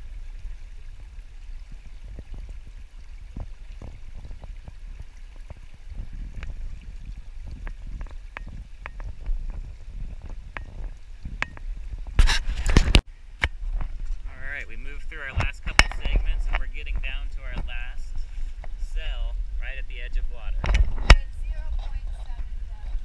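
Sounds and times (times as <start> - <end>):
shallow stream running: 0.0 - 23.0.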